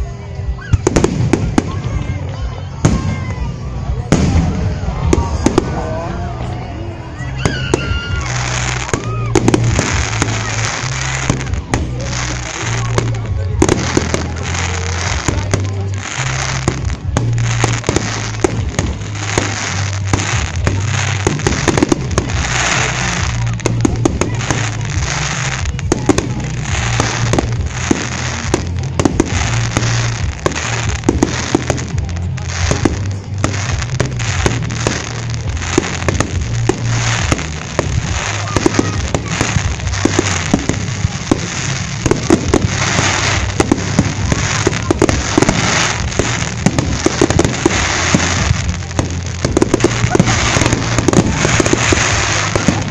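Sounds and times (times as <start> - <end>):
fireworks bursting and crackling: 0.0 - 52.9.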